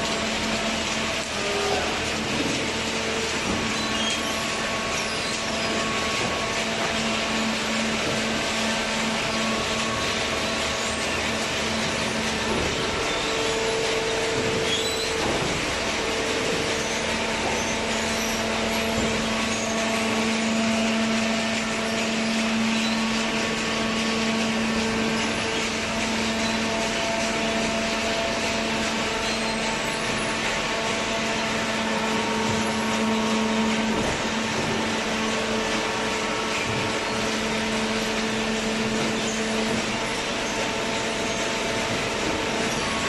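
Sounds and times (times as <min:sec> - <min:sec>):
hydraulic pump motor humming: 0:00.0 - 0:43.0.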